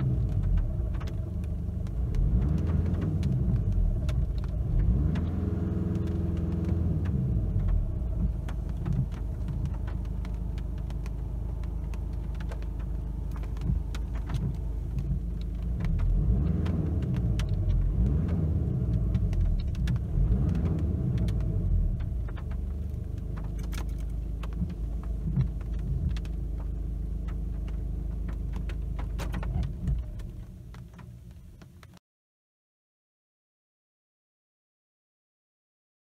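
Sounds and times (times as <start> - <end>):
scattered clicks: 0.2 - 32.0.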